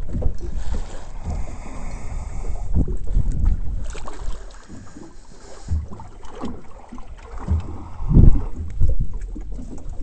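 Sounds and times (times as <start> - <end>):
low thumps on boat: 0.0 - 10.0
wind buffeting microphone: 0.0 - 10.0.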